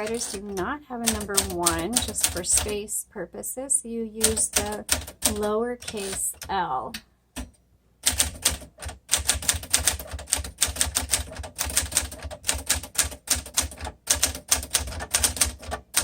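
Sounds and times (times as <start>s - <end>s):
manual typewriter typing: 0.0s - 2.8s, 4.2s - 6.6s, 7.4s - 16.0s.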